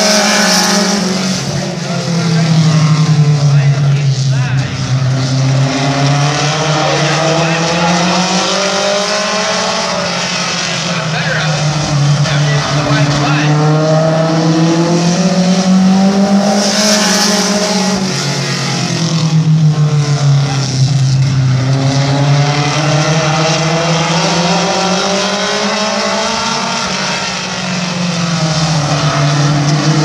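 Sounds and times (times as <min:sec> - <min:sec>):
race car engines: 0:00.0 - 0:30.0.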